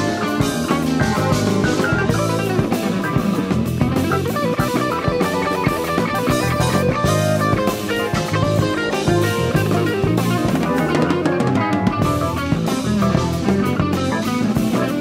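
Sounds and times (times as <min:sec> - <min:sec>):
drum kit: 0:00.0 - 0:15.0
electric bass: 0:00.0 - 0:15.0
electric guitar runs: 0:00.0 - 0:15.0
keyboards: 0:00.0 - 0:15.0.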